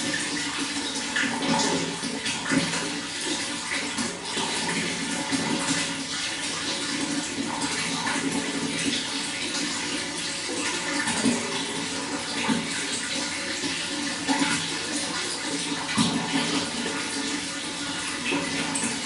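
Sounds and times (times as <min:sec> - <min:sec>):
running water splashing: 0:00.0 - 0:19.0
water gurgling: 0:00.0 - 0:19.0.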